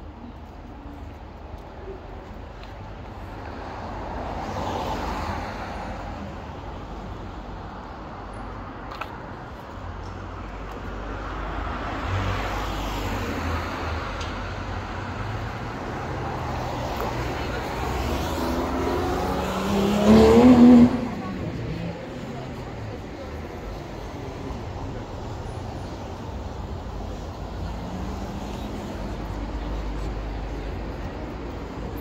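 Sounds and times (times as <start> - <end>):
cars passing by: 0.0 - 32.0
low traffic rumble: 0.0 - 32.0.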